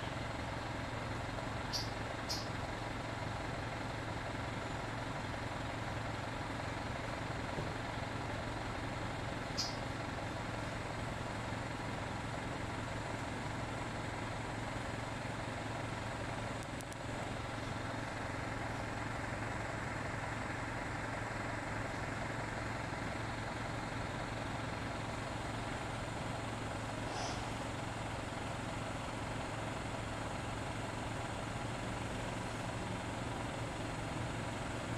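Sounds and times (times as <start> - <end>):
engine idling hum: 0.0 - 34.9.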